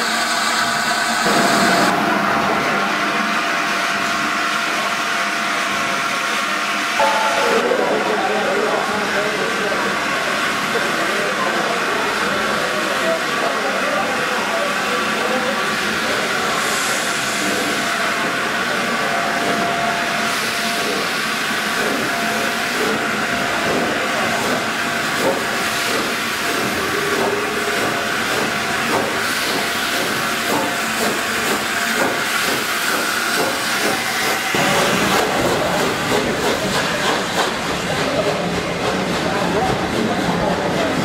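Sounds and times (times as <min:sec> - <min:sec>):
train coaches rumbling: 0:01.0 - 0:41.0
steam locomotive hissing: 0:07.0 - 0:41.0.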